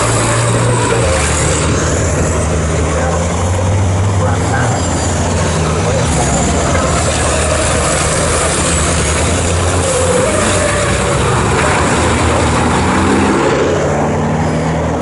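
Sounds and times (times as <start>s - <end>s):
racing truck engines: 0.0s - 15.0s
road and wind noise: 0.0s - 15.0s.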